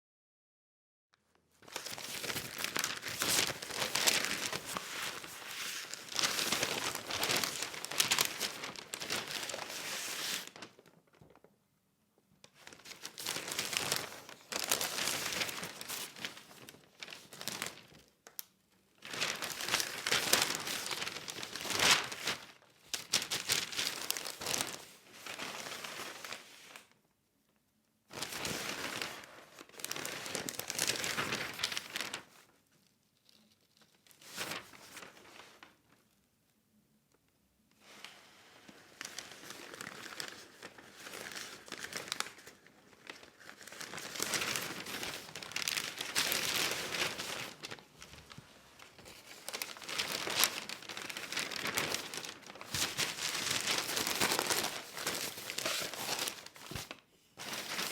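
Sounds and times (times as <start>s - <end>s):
newspaper pages rustling: 1.6s - 11.5s, 12.4s - 18.4s, 19.0s - 26.9s, 28.1s - 32.5s, 33.2s - 35.9s, 37.8s - 57.9s.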